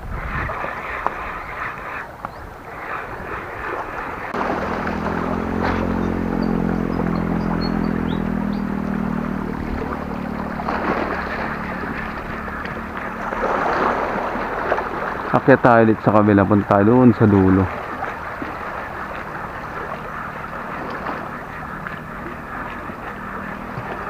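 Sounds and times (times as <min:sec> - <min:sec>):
low motor hum: 0:00.0 - 0:24.0
waves splashing over rocks: 0:00.4 - 0:24.0.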